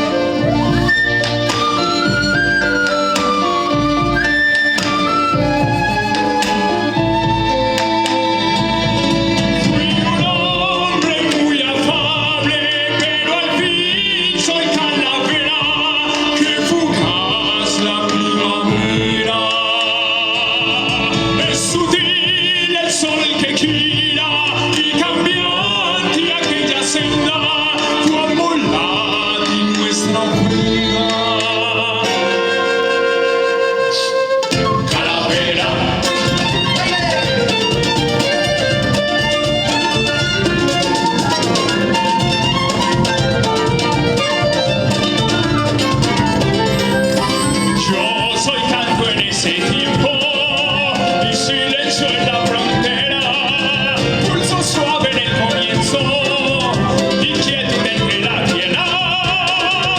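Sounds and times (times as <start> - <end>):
bowed string melody: 0.0 - 22.1, 23.8 - 59.8
band music: 0.0 - 59.9.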